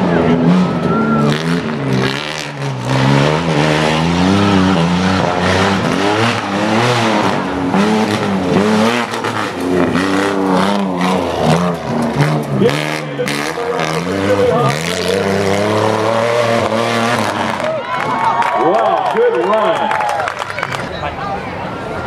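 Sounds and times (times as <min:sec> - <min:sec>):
truck engine revving: 0:00.0 - 0:19.6.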